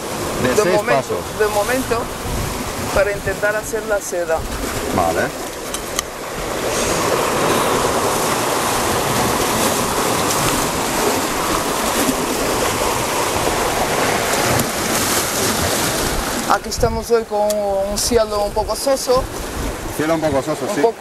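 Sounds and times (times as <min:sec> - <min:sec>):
surf breaking on rocks: 0:00.0 - 0:21.0.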